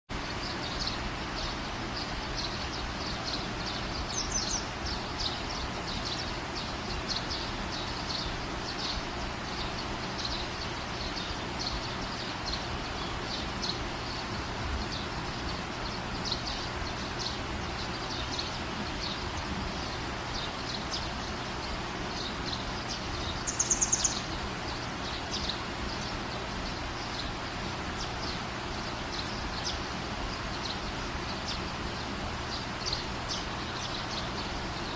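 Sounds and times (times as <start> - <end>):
small birds chirping: 0.1 - 34.9
steady background hiss: 0.1 - 34.9
bird trill: 0.2 - 34.9.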